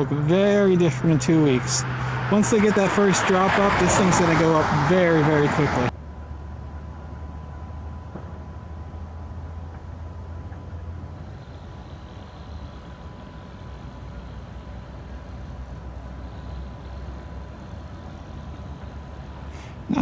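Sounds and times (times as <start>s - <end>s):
diesel machinery rumble: 0.0s - 20.0s
thin constant whine: 0.0s - 20.0s.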